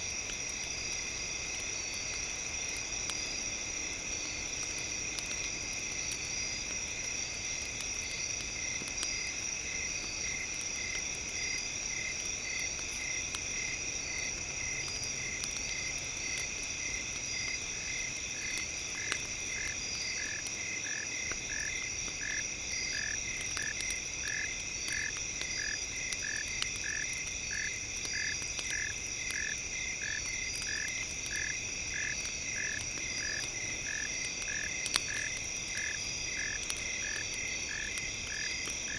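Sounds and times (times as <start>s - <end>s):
faint crackles: 0.0s - 38.9s.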